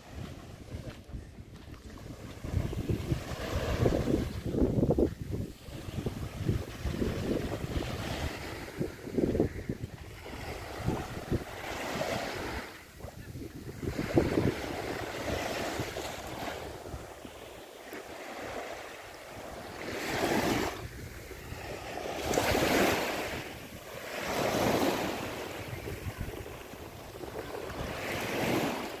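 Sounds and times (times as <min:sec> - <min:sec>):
wind rumbling on microphone: 0:00.0 - 0:17.6, 0:19.4 - 0:29.0
small waves washing on sand: 0:00.0 - 0:29.0.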